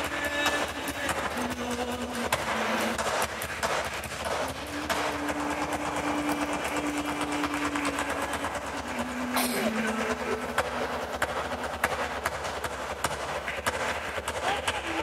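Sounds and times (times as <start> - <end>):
fast dense clicking rhythm: 0.0 - 15.0
spanish-style music: 0.0 - 15.0.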